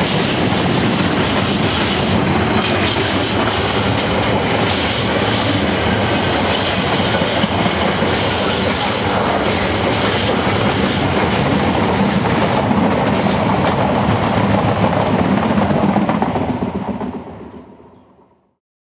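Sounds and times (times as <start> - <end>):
freight train wheels clattering: 0.0 - 17.5.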